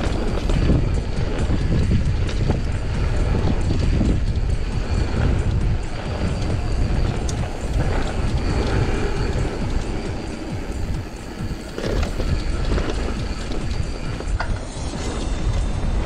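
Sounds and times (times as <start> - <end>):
bike rattling and knocking: 0.0 - 16.0
bike tyres rumbling over dirt: 0.0 - 16.0
wind buffeting microphone: 0.0 - 16.0.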